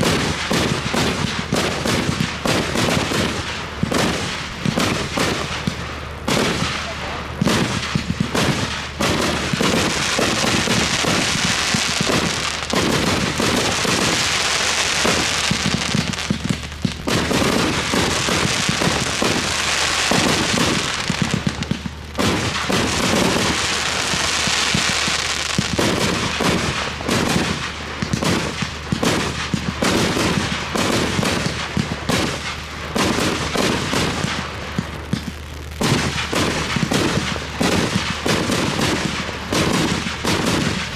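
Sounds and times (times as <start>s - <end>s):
fireworks bangs: 0.0s - 40.9s
fireworks high hiss: 0.0s - 40.9s.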